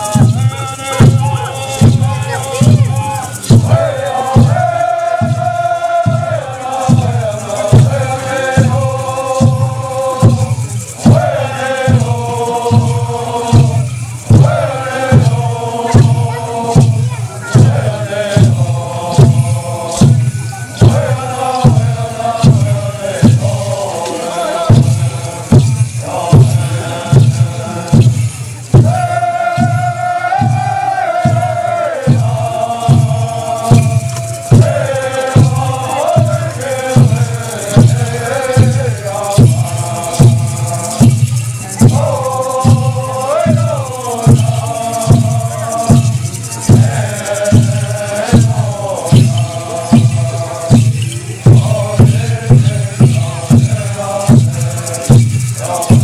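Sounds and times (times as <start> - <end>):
group of singers chanting: 0.0 - 56.0
steady drum beat: 0.0 - 56.0.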